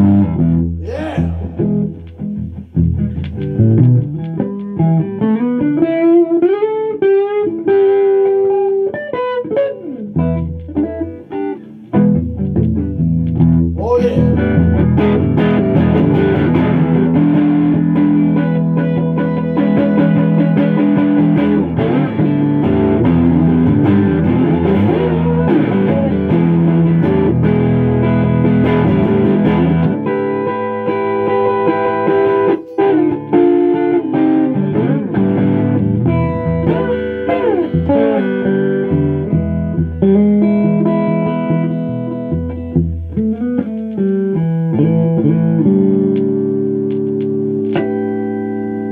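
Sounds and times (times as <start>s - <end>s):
electric guitar playing: 0.0s - 48.9s.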